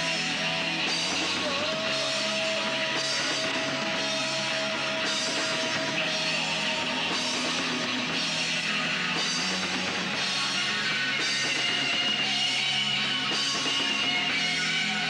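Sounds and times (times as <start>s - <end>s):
bass and drums: 0.0s - 15.0s
distorted electric guitars: 0.0s - 15.0s.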